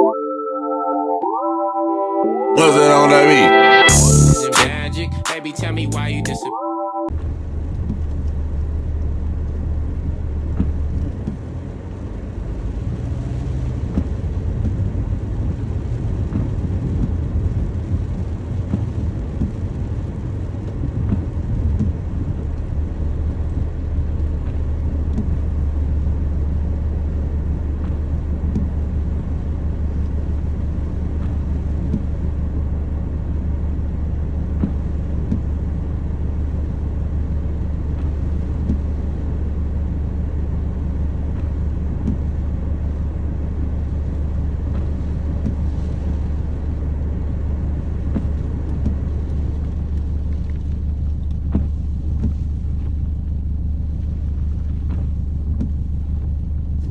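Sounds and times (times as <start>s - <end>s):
rain low rumble: 7.1s - 56.9s
faint rain taps: 7.2s - 56.9s.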